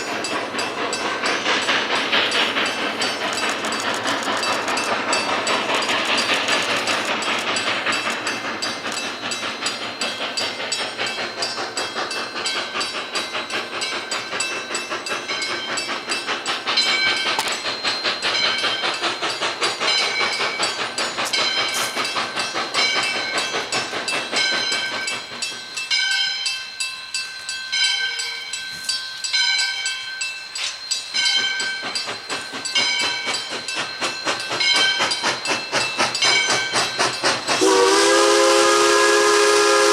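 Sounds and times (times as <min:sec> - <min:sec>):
steam hiss: 0:00.0 - 0:39.9
train wheels clicking over rail joints: 0:00.0 - 0:39.9.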